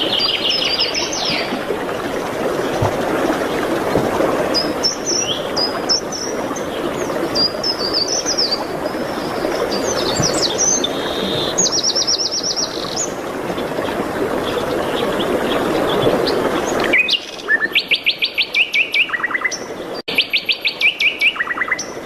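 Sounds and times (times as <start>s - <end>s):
songbird singing chirps and trills: 0.0s - 1.8s, 4.5s - 22.0s.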